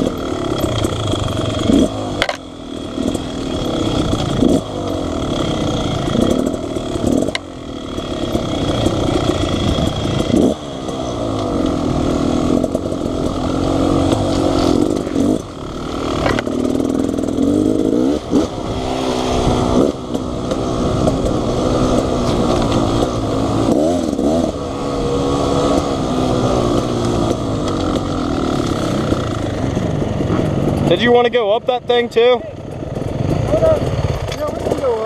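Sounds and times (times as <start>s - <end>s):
dirt bike engine idling: 0.0s - 35.0s
engine throttle blips: 0.0s - 35.0s.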